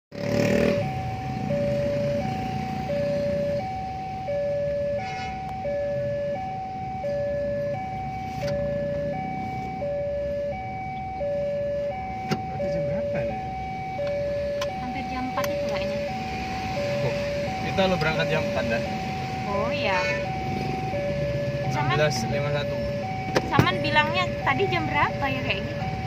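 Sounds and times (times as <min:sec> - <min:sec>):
level crossing two-tone alarm: 0:00.3 - 0:26.0.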